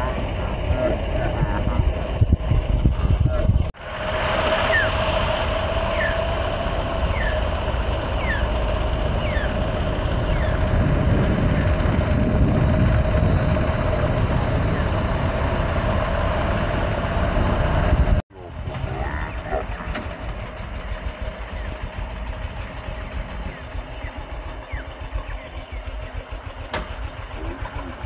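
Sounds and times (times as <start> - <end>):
wind noise on microphone: 0.0 - 24.7
motorcycle engine running: 0.0 - 28.0.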